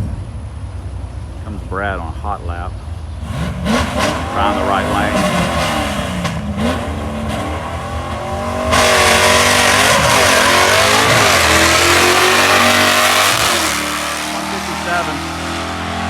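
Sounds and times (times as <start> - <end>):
drag car engine revving: 2.6 - 16.0.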